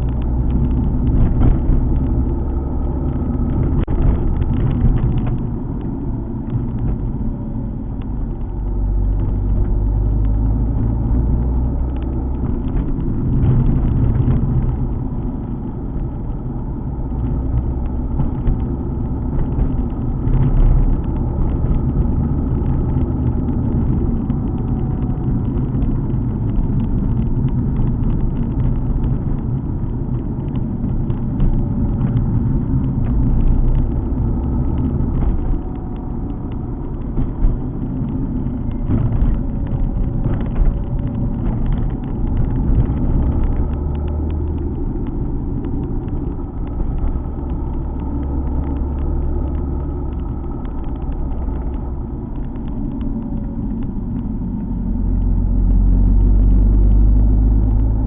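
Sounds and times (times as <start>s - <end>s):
car engine rumbling: 0.0s - 58.0s
tyre noise on road: 0.0s - 58.0s.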